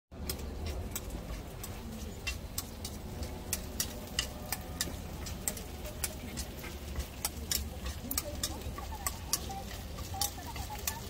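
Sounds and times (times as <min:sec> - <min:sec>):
metal pick scraping iron pan: 0:00.2 - 0:11.0.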